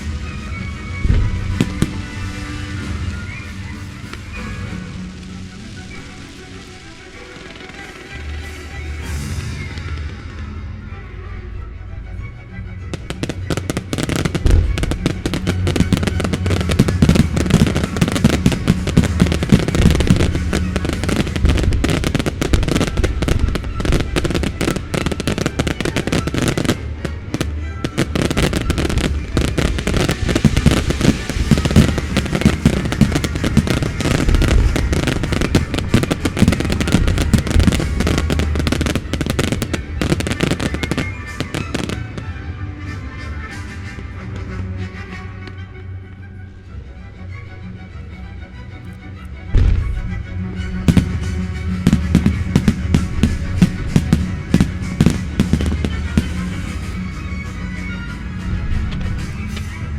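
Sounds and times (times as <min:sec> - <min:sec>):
fireworks bangs and crackling: 0:00.0 - 0:10.8, 0:12.9 - 0:44.5, 0:49.5 - 0:59.9
loud music: 0:00.0 - 0:59.9.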